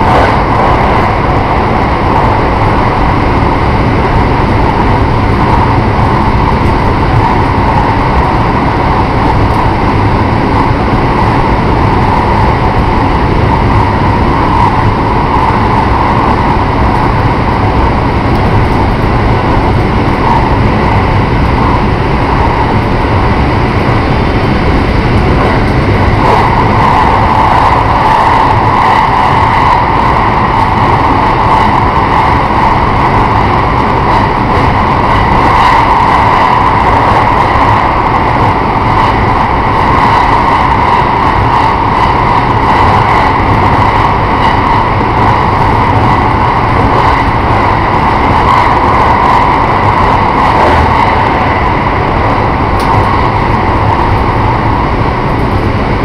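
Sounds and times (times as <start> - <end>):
high-pitched train noise: 0.0 - 56.0
train wheels rumbling on rail: 0.0 - 56.0.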